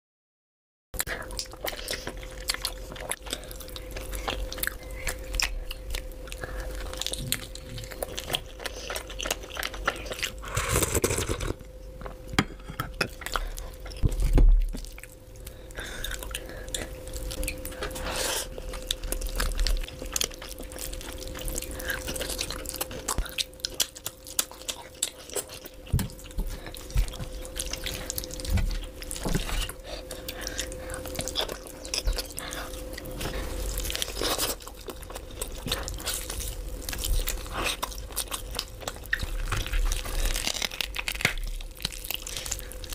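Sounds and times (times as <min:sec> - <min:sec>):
wet chewing and lip-smacking: 0:01.0 - 0:11.4, 0:13.0 - 0:42.9
faint steady hum: 0:01.0 - 0:42.9.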